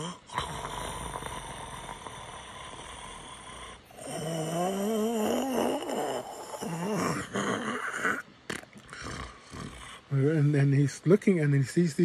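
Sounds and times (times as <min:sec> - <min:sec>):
man imitating snoring: 0:00.0 - 0:08.2, 0:08.9 - 0:10.3
wavering hummed breath: 0:00.0 - 0:10.2.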